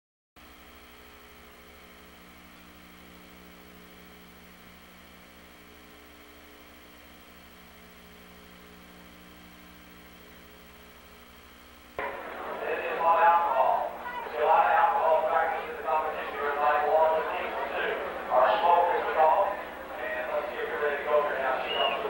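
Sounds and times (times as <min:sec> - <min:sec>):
electrical mains hum: 0:00.4 - 0:22.0.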